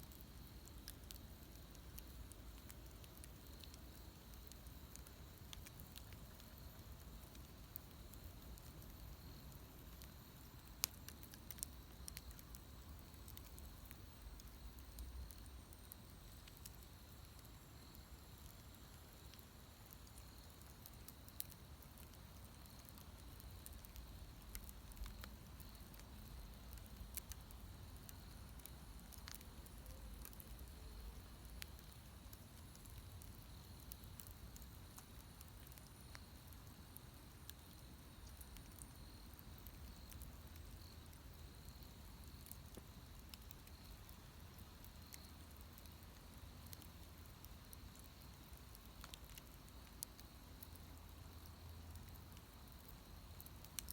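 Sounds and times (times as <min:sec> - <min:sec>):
faint bonfire crackling: 0:00.0 - 0:53.9.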